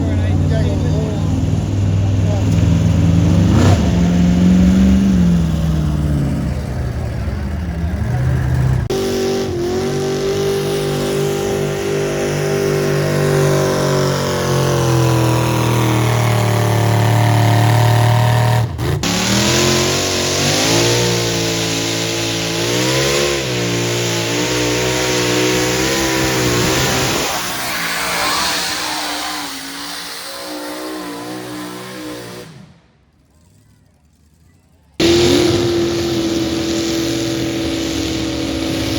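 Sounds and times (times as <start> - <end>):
truck engine at high revs: 0.0 - 38.9.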